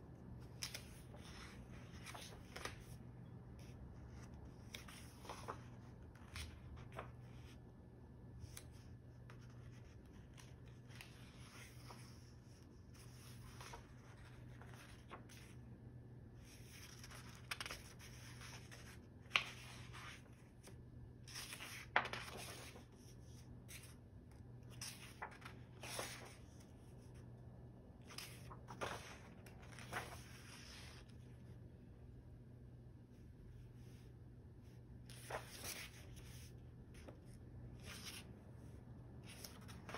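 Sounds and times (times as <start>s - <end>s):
faint low hum: 0.0s - 39.9s
book pages turning: 0.4s - 7.6s, 8.4s - 15.6s, 16.4s - 27.3s, 28.0s - 31.3s, 35.0s - 39.9s.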